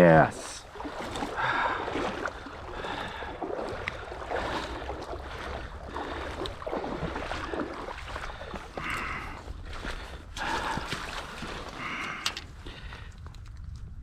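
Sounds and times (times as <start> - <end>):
creek water splashing: 0.0 - 13.0
wind rumble on microphone: 0.7 - 14.0.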